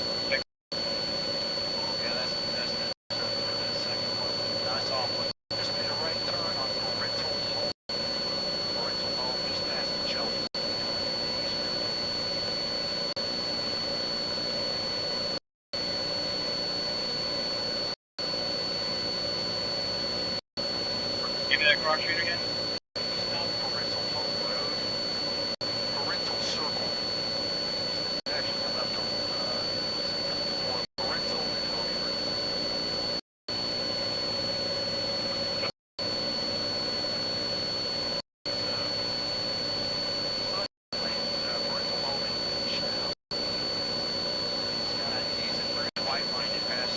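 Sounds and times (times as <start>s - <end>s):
helicopter turbine and rotors: 0.0s - 46.9s
high turbine whine: 0.0s - 46.9s.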